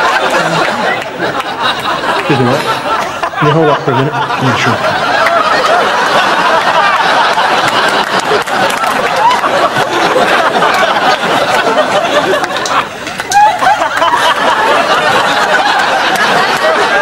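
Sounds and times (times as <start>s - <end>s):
audience laughing: 0.0s - 17.0s.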